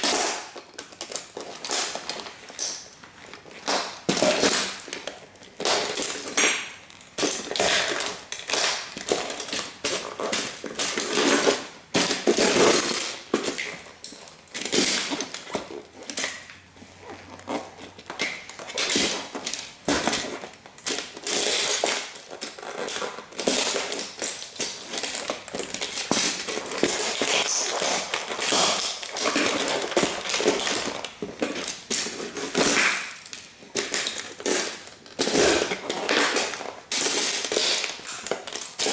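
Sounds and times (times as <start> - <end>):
toy car crunching underfoot: 0.0 - 38.9.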